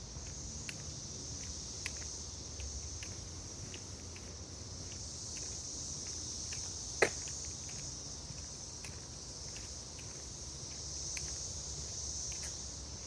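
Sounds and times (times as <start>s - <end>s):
faint footsteps on trail: 0.0s - 13.0s
insects droning: 0.0s - 13.0s.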